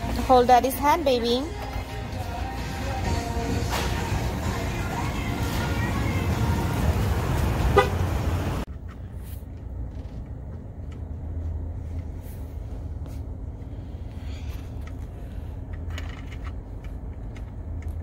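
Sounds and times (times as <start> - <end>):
low vehicle cabin rumble: 0.0 - 18.0.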